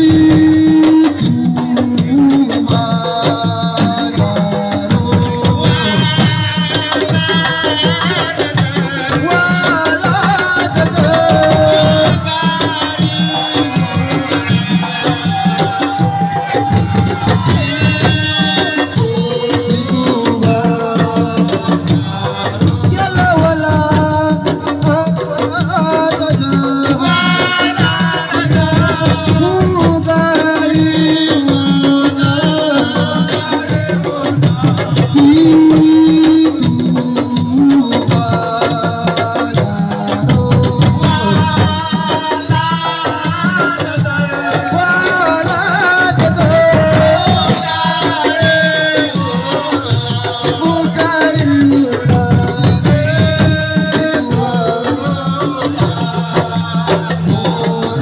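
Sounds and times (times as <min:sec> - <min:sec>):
fast hand drumming: 0:00.0 - 0:58.0.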